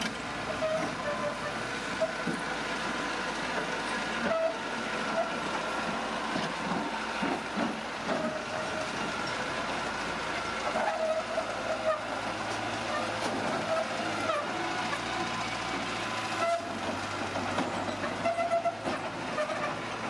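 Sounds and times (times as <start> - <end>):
metallic track squeals and clanks: 0.0 - 2.4, 3.6 - 20.0
bulldozer engine running: 0.0 - 20.0.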